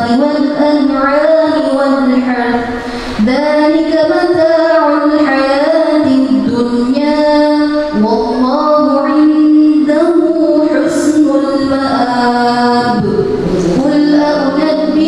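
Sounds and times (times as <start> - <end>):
woman reciting melodically: 0.0 - 15.0.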